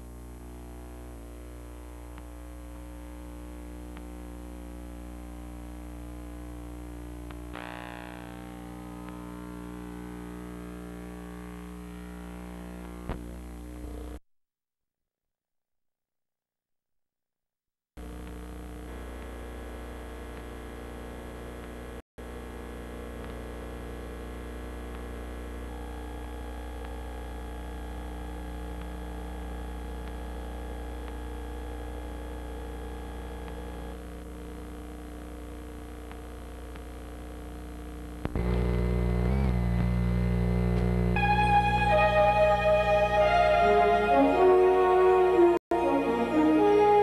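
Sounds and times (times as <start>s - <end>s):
electrical hum and buzz: 0.0s - 14.2s, 18.0s - 47.0s.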